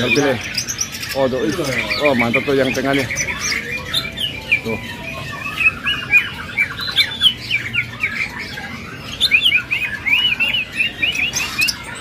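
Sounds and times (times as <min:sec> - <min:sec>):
bird singing whistled chirps: 0:00.0 - 0:12.0.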